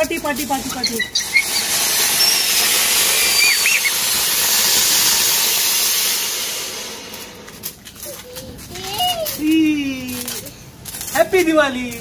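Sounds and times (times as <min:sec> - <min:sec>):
ground fountain firework hissing: 0:00.0 - 0:11.2.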